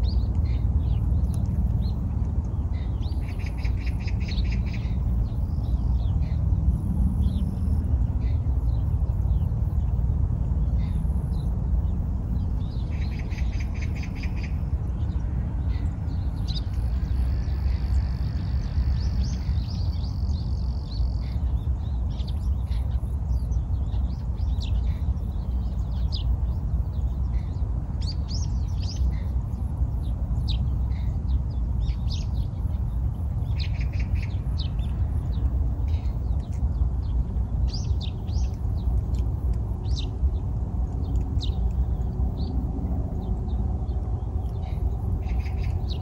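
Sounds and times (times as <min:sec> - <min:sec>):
low rumble: 0:00.0 - 0:46.0
small birds chirping: 0:00.0 - 0:46.0.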